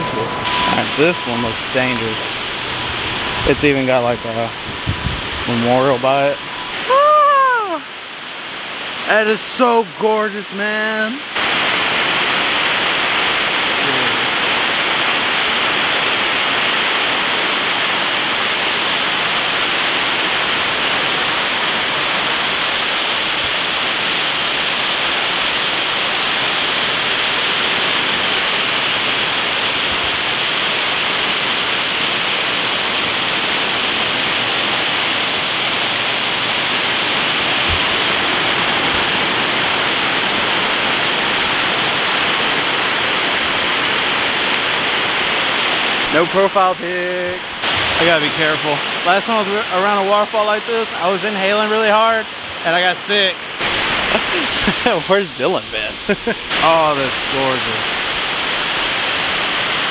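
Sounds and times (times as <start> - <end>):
waterfall splashing onto rocks: 0.4 - 59.9.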